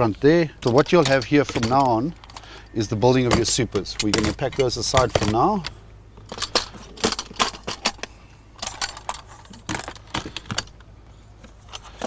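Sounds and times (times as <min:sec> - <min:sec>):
light clicks and knocks of parts: 0:00.0 - 0:12.0.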